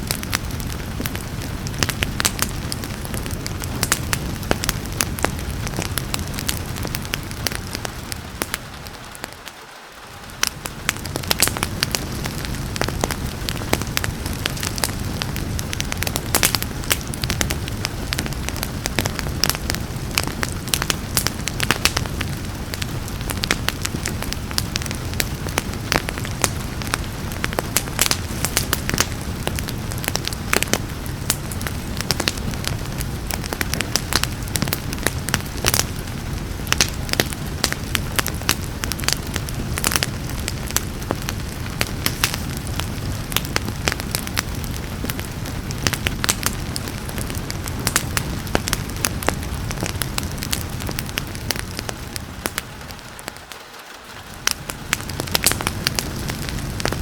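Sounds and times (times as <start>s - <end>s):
falling rain: 0.0s - 57.0s
wood fire crackling and popping: 0.0s - 57.0s.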